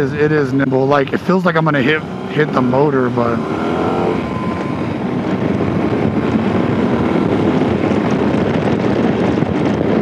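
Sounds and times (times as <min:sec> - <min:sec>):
road noise: 0:00.0 - 0:10.0
wind buffeting microphone: 0:00.0 - 0:10.0.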